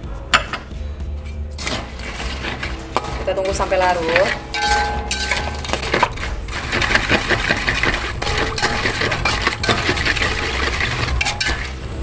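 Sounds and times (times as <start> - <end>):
metal spoon scraping a wok: 1.2 - 12.0.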